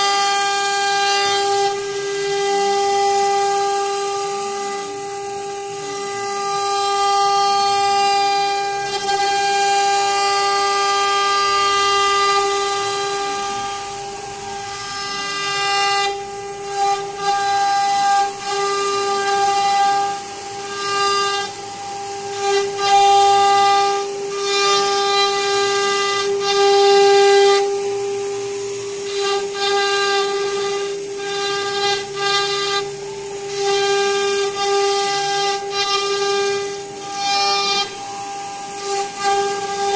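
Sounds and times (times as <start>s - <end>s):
rough wood cutting noise: 0.0s - 39.9s
router spindle whining: 0.0s - 39.9s.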